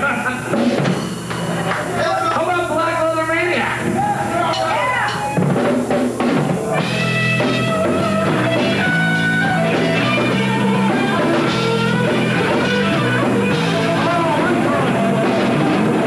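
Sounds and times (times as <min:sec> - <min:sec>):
heavy metal band playing: 0:00.0 - 0:16.0
drum hits: 0:00.4 - 0:02.0, 0:03.8 - 0:16.0.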